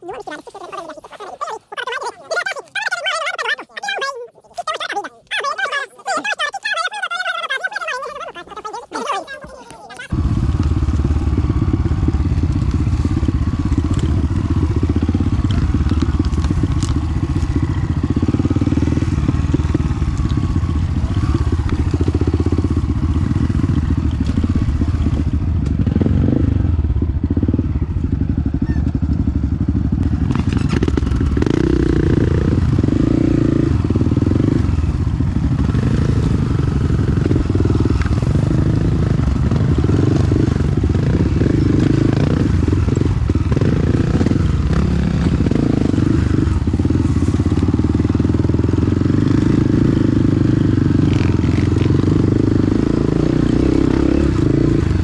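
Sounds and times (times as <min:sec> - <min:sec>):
dirt bike engine: 0:10.1 - 0:55.0.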